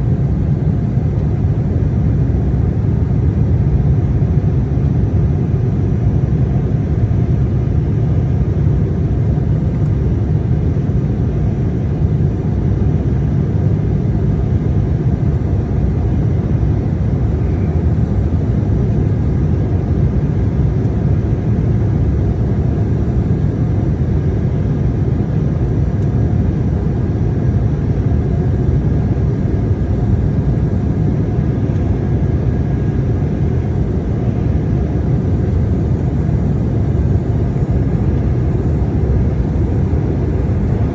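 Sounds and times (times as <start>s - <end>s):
jet engines roaring in cabin: 0.0s - 40.9s.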